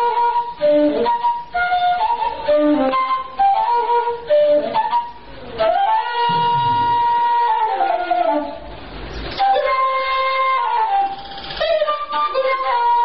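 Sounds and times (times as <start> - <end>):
solo flute melody: 0.0 - 13.0.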